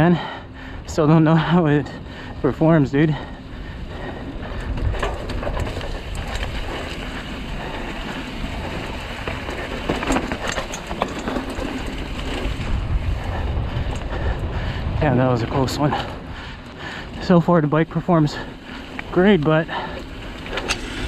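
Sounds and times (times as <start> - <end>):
tyres on dirt: 0.0 - 21.0
wind rumbling on microphone: 0.0 - 21.0
bike clicks and rattles: 1.9 - 14.9, 15.6 - 21.0.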